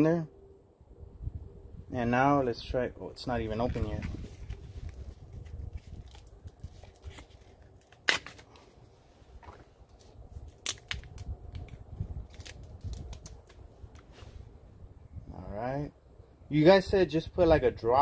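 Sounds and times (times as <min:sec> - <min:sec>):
wind rumbling on microphone: 0:00.7 - 0:07.8, 0:09.1 - 0:18.0.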